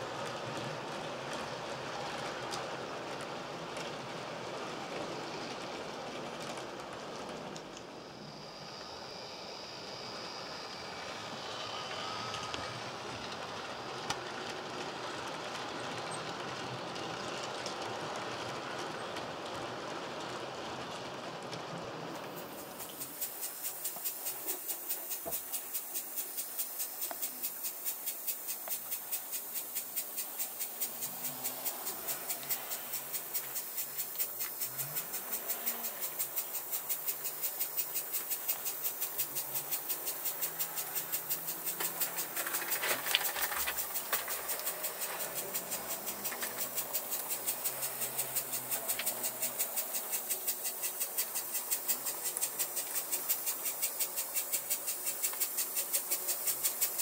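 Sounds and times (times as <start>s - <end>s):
high hiss: 0.0s - 16.8s, 21.8s - 57.0s
model train running: 0.0s - 57.0s.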